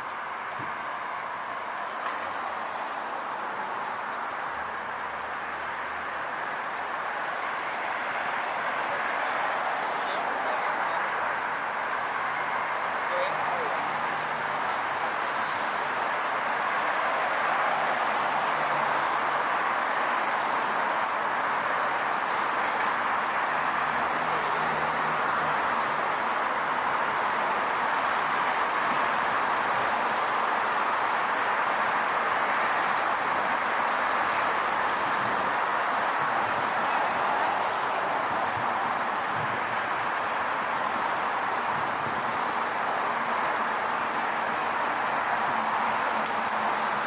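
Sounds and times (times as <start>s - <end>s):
heavy street traffic: 0.0s - 47.0s.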